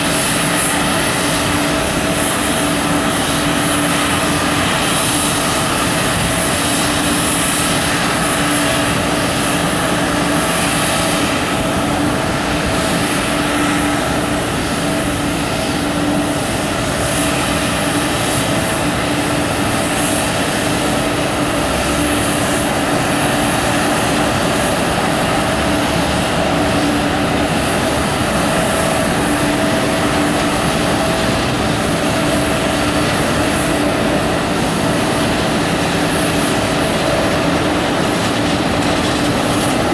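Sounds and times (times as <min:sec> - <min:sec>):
constant low hum: 0:00.0 - 0:39.9
jet engine rush: 0:00.0 - 0:39.9.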